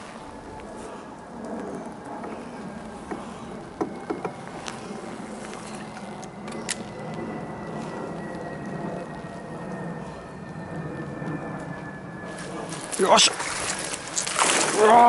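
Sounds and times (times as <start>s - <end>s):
electric trolling motor whine: 0.0s - 15.0s.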